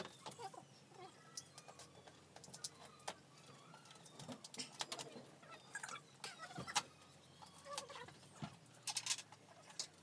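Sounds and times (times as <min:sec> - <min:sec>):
faint chirping squeaks: 0:00.0 - 0:10.0.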